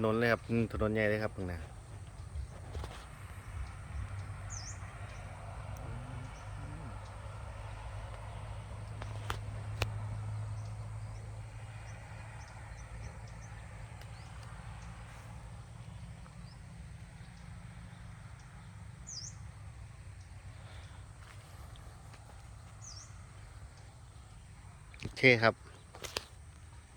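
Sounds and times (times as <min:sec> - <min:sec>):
faint bird chirps: 0:00.0 - 0:07.7, 0:10.3 - 0:19.5, 0:20.2 - 0:26.0
steady low rumble: 0:00.0 - 0:26.9.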